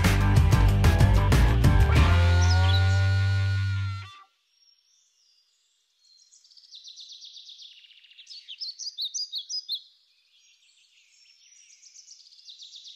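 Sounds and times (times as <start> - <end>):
songbird singing: 2.0 - 12.9.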